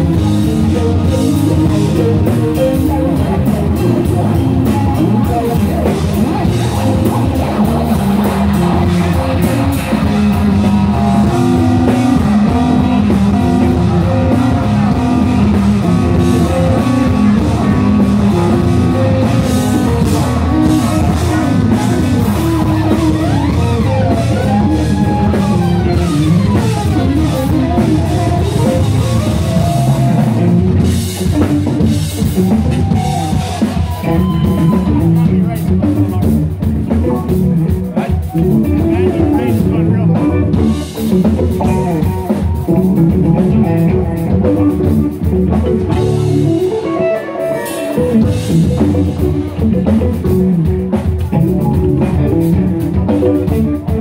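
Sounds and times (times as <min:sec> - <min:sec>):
drum kit: 0:00.0 - 0:54.0
electric bass: 0:00.0 - 0:54.0
electric guitar: 0:00.0 - 0:54.0
keyboards: 0:00.0 - 0:54.0.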